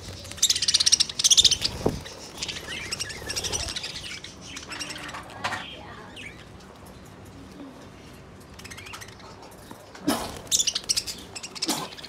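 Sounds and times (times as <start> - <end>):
budgerigars chirping and chattering: 0.0 - 7.2, 7.9 - 12.0.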